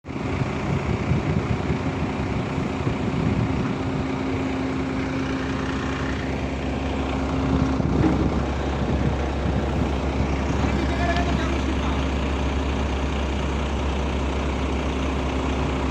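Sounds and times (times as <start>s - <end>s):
diesel engine running: 0.0s - 15.9s
deep low rumble: 0.3s - 13.4s.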